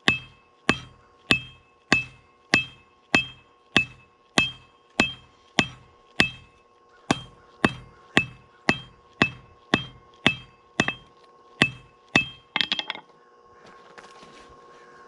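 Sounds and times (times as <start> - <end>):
hammer striking steel on anvil: 0.0 - 13.1.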